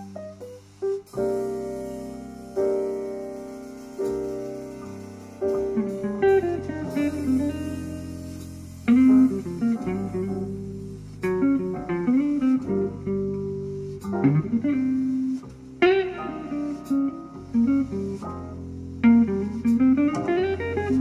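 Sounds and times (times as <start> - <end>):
low bass line: 0.0 - 21.0
plucked jazz guitar: 0.0 - 21.0.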